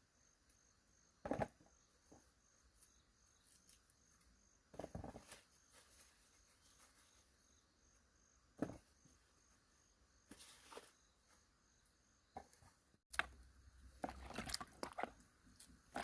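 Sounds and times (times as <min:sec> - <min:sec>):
faint insect chirping: 0:00.0 - 0:14.0.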